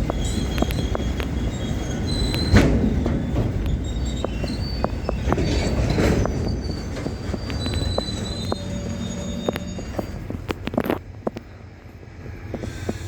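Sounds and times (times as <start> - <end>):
wheel squeal: 0.0 - 11.0
train wheels rumbling: 0.0 - 13.0.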